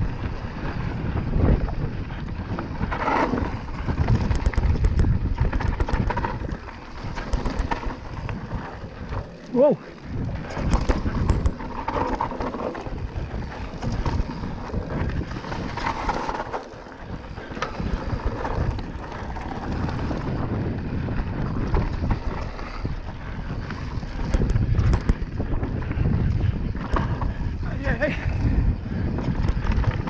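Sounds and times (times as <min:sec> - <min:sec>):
bike chain and frame rattling: 0:00.0 - 0:30.0
tyres rumbling on dirt: 0:00.0 - 0:30.0
wind buffeting microphone: 0:00.0 - 0:30.0.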